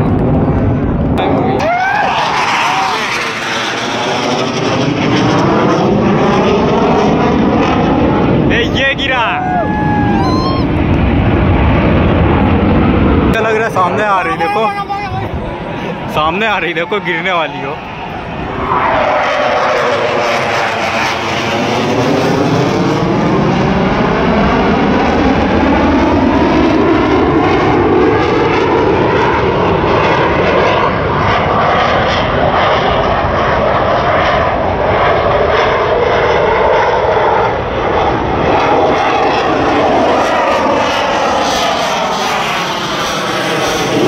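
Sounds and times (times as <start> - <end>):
fighter jet roar: 0.0 - 44.0.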